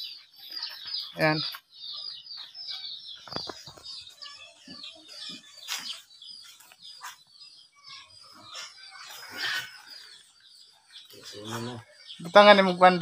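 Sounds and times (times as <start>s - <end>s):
chickens clucking: 0.0s - 13.0s
small birds chirping: 0.0s - 13.0s.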